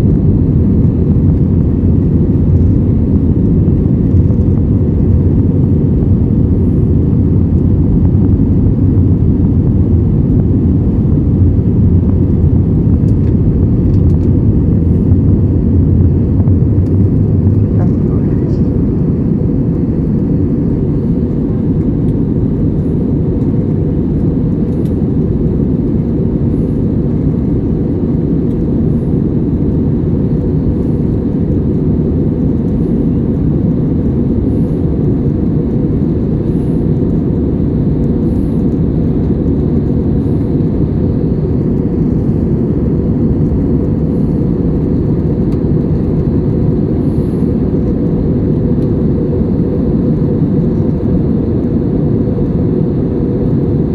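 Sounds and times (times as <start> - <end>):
jet engine rumble in cabin: 0.0 - 53.9.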